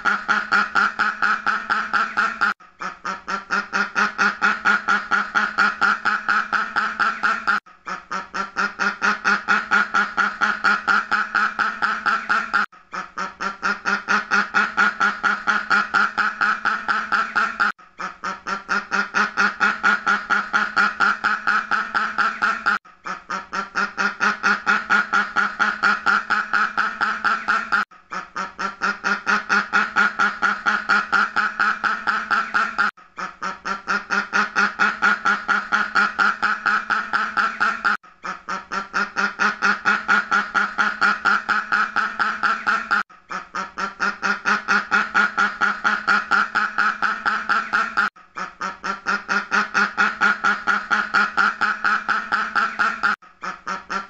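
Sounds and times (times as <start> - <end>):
duck quacking: 0.0 - 54.0.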